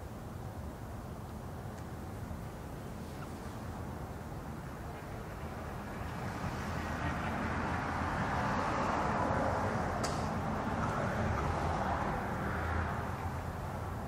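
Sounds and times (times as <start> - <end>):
rushing outdoor noise: 0.0 - 14.0.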